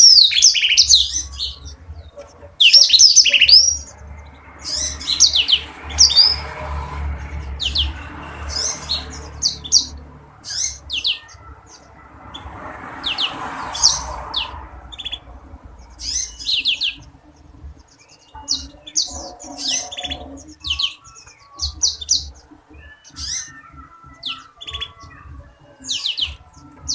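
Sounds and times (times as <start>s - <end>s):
canary singing: 0.0s - 26.9s.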